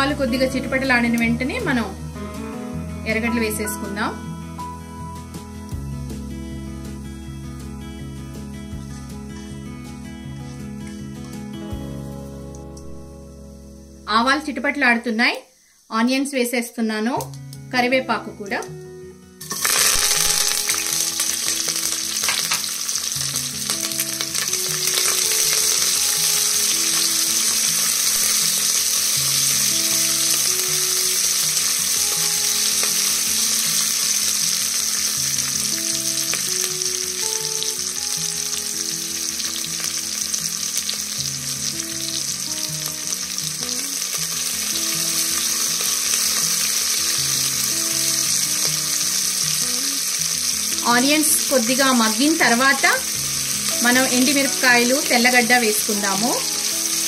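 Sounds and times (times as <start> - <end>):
soft background music: 0.0 - 57.0
onions sizzling in hot oil: 8.5 - 57.0.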